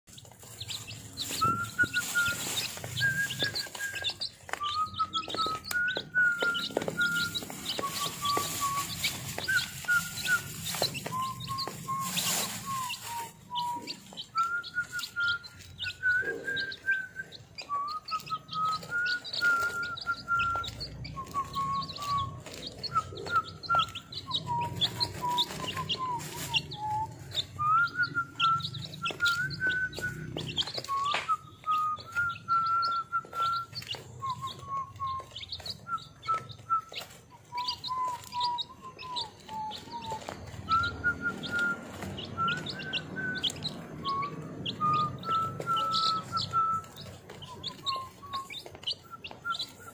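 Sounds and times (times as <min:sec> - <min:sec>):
chicks peeping: 0:00.1 - 0:49.9.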